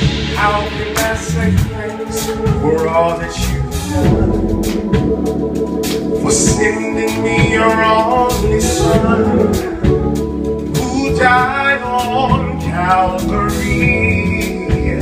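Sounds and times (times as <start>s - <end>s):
man singing: 0.0s - 4.7s, 6.2s - 15.0s
drum hits: 0.0s - 12.7s
band held chords: 0.0s - 15.0s.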